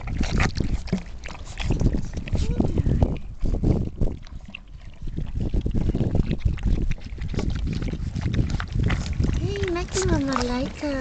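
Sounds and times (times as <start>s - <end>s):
puppies lapping milk: 0.0s - 11.0s.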